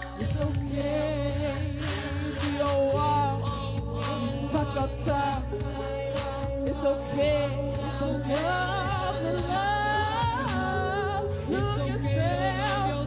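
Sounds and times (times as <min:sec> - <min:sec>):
bass line and beat: 0:00.0 - 0:13.0
person singing: 0:00.0 - 0:13.0.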